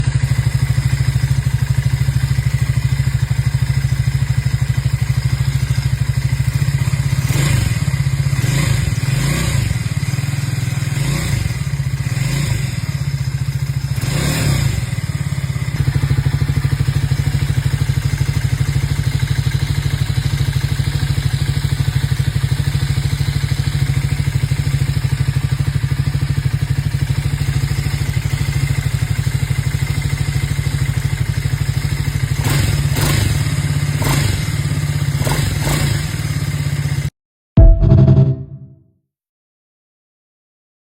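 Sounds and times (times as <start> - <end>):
motorcycle engine idling and revving: 0.0 - 37.1.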